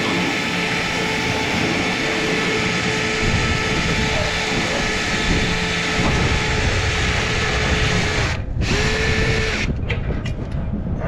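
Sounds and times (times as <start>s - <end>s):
power drill spinning brush in duct: 0.0s - 9.8s.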